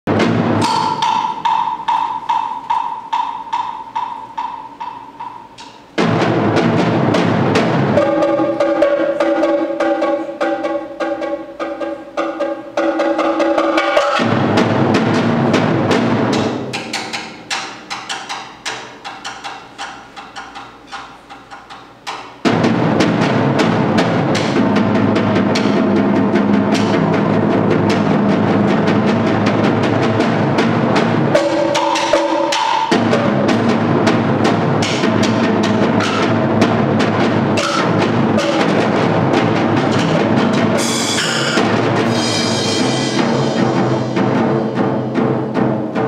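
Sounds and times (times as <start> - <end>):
percussion ensemble playing: 0.0 - 46.0.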